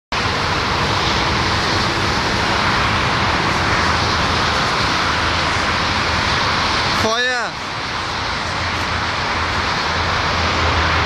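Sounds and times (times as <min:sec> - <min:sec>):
vehicle engines roaring: 0:00.1 - 0:11.0.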